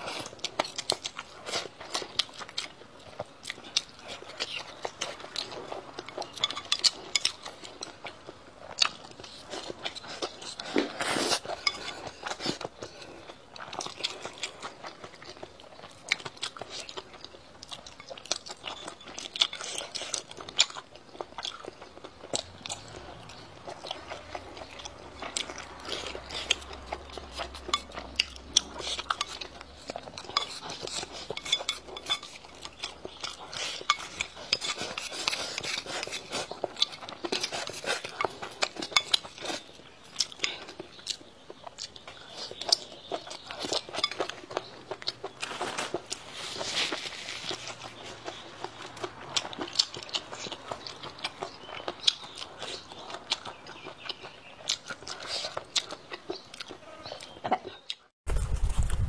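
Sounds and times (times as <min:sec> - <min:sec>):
chewing and mouth smacking: 0:00.0 - 0:58.9.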